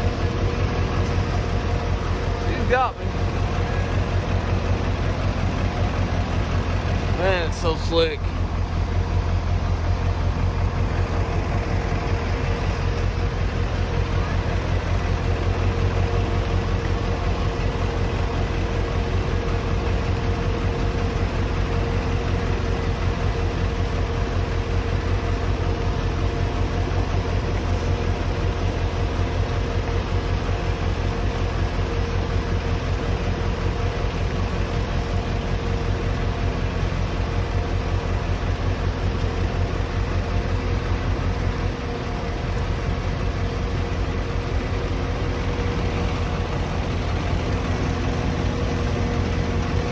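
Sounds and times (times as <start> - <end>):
heavy diesel engine rumbling: 0.0 - 49.9
mid-pitched whine: 0.0 - 49.9.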